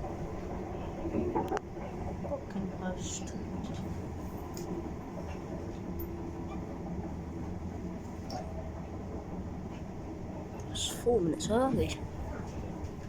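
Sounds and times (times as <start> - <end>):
train equipment low hum: 0.0 - 13.0.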